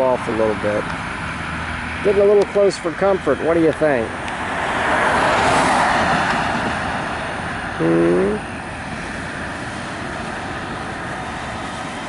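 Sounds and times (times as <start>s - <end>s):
steady traffic hiss: 0.0s - 12.0s
vehicle passing close by: 0.0s - 12.0s.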